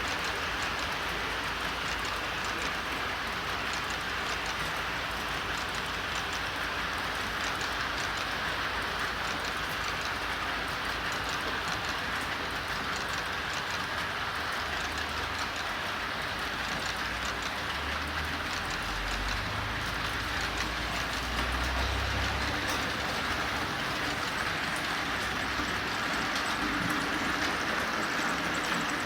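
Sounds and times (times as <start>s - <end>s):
rail joint clicks: 0.0s - 29.0s
train wheels rumbling on rail: 0.0s - 29.0s.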